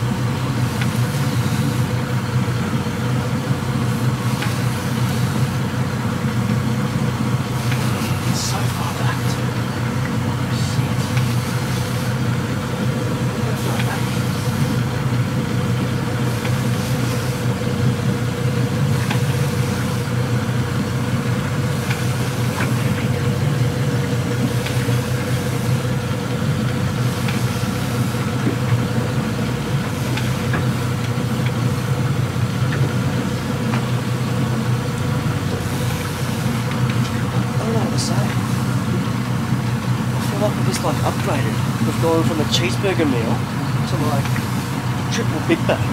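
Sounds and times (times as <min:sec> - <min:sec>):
boat engine running: 0:00.0 - 0:45.9.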